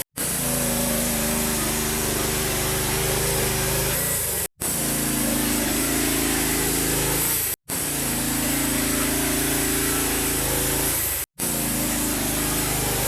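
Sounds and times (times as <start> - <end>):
log mill engine sawing log: 0.0 - 13.0.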